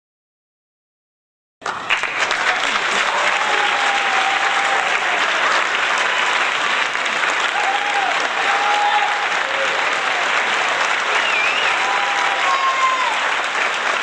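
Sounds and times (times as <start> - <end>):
crowd clapping: 1.6 - 14.0.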